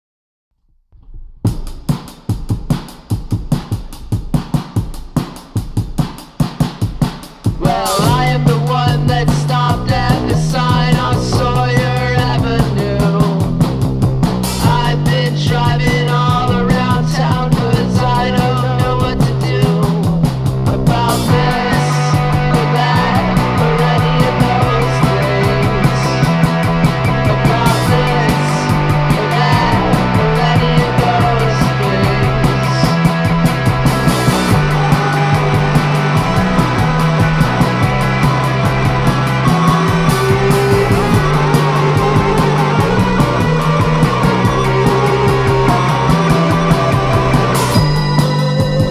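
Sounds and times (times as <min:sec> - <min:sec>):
fast drum beat: 0:01.1 - 0:48.9
bass and guitar: 0:07.6 - 0:48.9.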